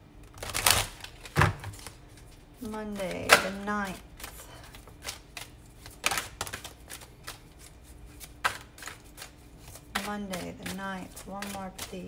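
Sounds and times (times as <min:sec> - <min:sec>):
cards being shuffled: 0:00.2 - 0:12.0.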